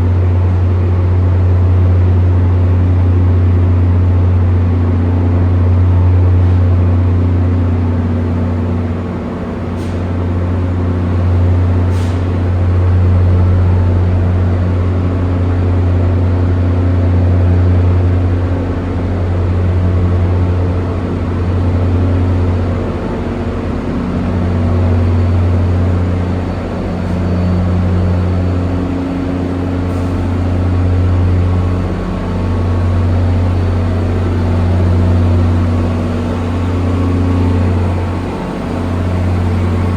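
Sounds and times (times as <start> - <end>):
heavy vehicle deep hum: 0.0 - 39.9.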